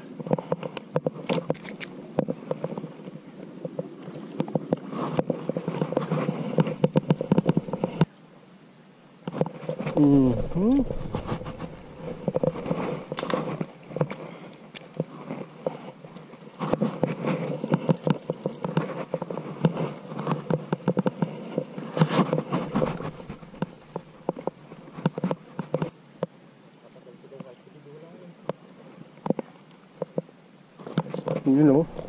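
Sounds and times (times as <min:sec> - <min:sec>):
leaves and stems rustling: 0:00.0 - 0:08.1, 0:09.3 - 0:26.0, 0:30.8 - 0:32.0.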